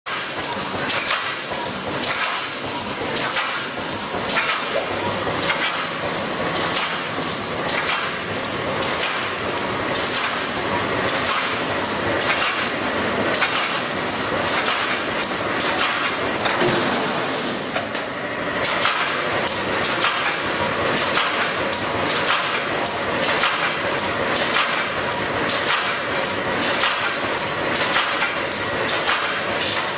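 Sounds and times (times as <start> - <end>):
constant mechanical noise: 0.1 - 29.9.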